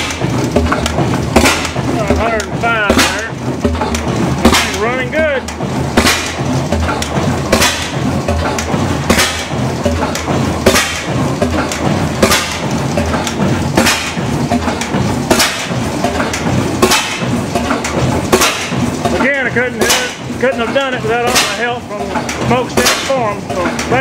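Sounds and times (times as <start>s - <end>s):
sharp loud engine crack: 0.0s - 24.0s
stationary engine running: 0.0s - 24.0s.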